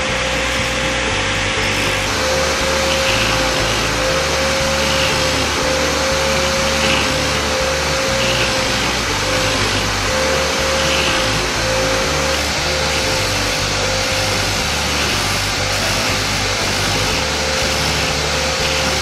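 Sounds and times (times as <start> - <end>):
electric sanding disc humming: 0.0 - 19.0
metal being sanded: 0.0 - 19.0.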